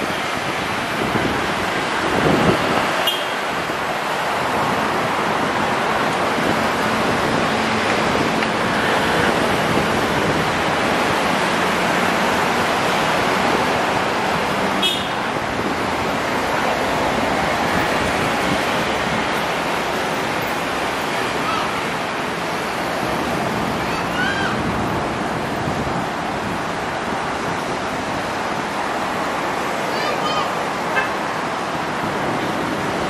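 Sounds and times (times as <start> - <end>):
wind on microphone: 0.0 - 29.5
road traffic noise: 0.0 - 33.0.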